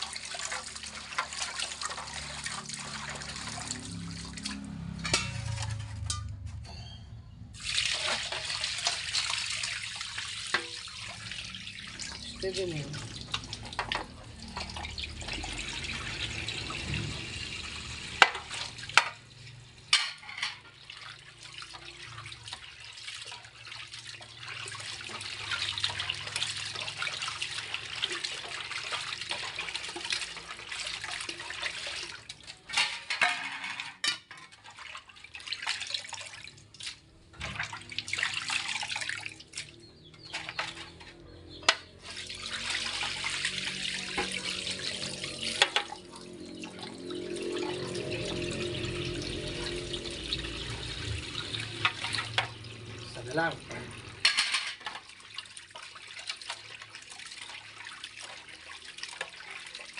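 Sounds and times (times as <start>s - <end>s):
tap water running into sink: 0.0s - 5.8s, 7.6s - 33.2s, 34.3s - 59.9s.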